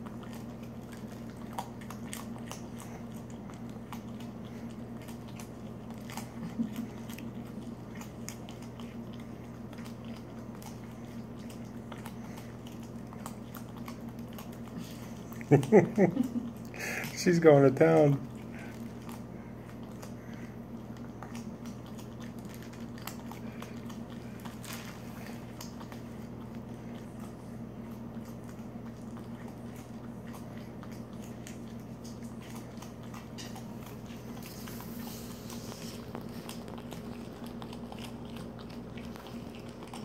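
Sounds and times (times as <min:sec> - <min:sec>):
low electrical hum: 0:00.0 - 0:40.0
raccoon crunching and chewing cereal: 0:00.0 - 0:40.0.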